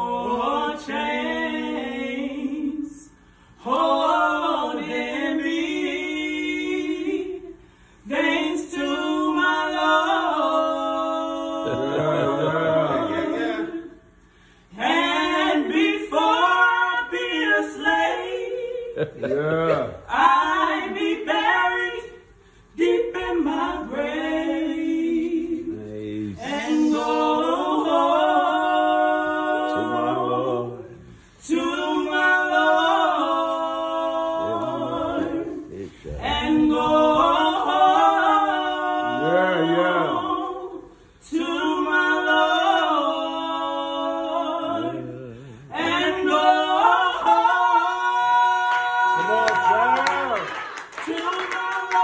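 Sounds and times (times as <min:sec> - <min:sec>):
woman and man singing a cappella: 0:00.0 - 0:52.0.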